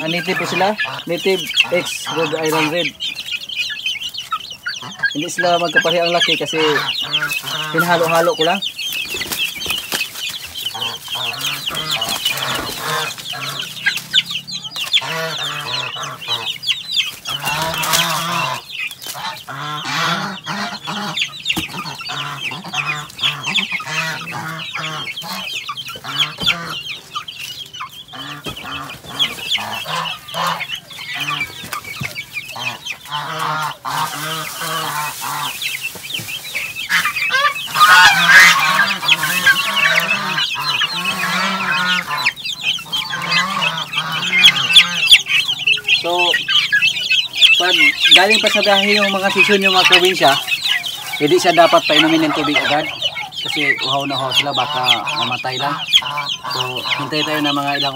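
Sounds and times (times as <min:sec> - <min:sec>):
chicks peeping: 0:00.0 - 0:57.9
low clucking: 0:00.0 - 0:57.9.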